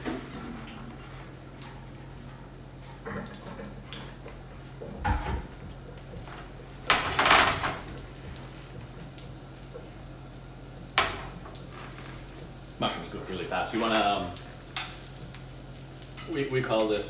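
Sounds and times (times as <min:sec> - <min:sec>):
water pouring and splashing: 0:00.0 - 0:16.5.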